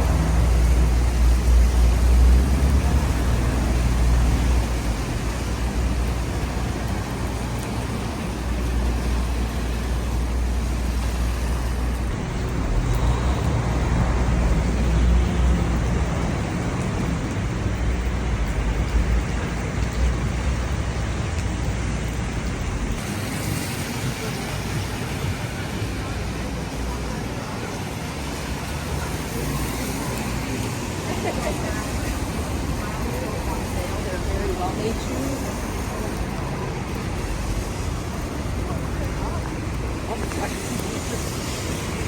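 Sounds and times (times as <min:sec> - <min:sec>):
traffic rumble and hiss on wet road: 0:00.0 - 0:42.0.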